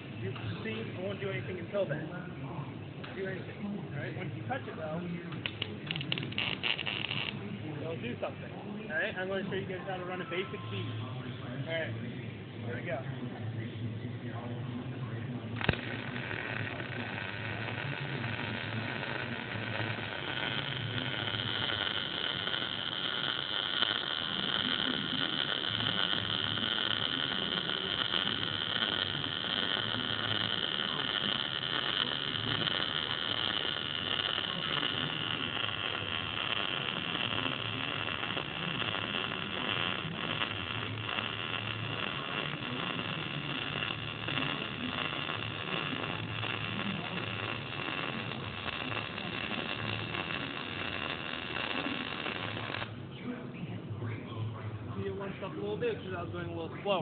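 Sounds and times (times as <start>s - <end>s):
welder arc crackling: 0.0s - 2.1s, 2.9s - 10.9s, 14.1s - 53.3s
high whine: 3.0s - 57.0s.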